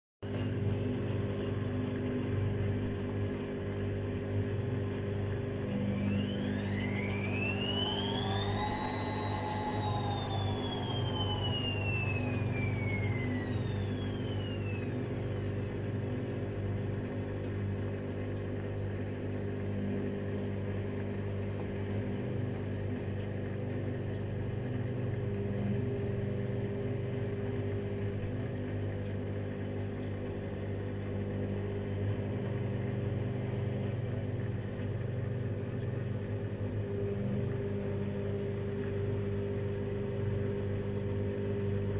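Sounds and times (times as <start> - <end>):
washing machine humming: 0.2 - 41.9.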